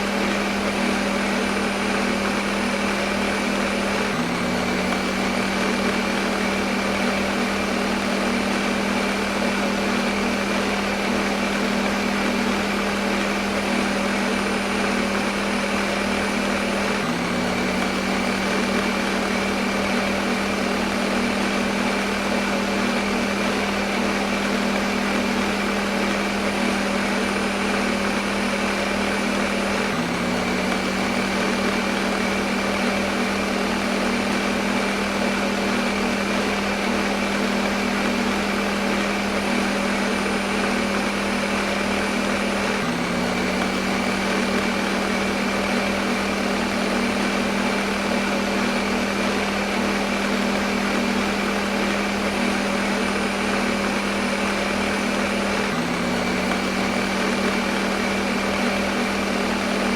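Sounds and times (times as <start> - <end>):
electric blender motor whirring: 0.0 - 59.9.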